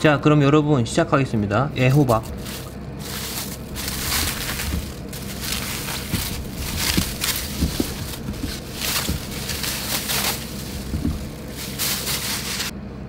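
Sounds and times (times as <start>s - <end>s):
plastic bag crinkling: 1.9s - 12.7s.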